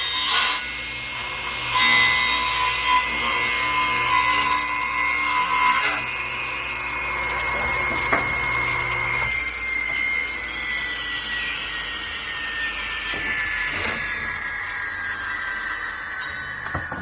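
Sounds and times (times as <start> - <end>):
saw blade cutting wood: 0.0 - 17.0
table saw whine: 0.0 - 17.0.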